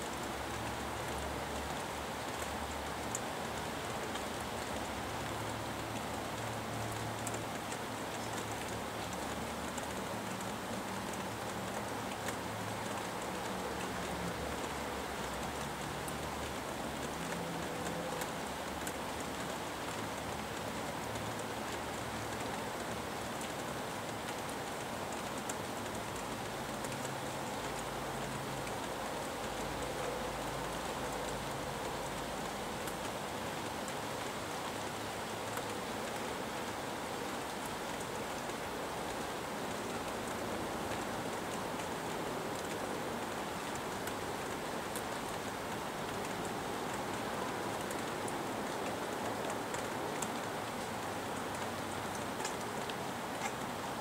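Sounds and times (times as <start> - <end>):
steady rain: 0.0 - 54.0
sharp drip ticks: 0.1 - 54.0.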